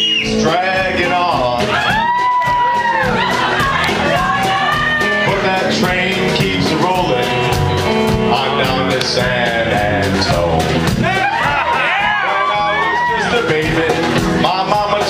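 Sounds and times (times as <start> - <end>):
bass guitar: 0.0 - 15.0
drum kit beat: 0.0 - 15.0
electric guitars: 0.0 - 15.0.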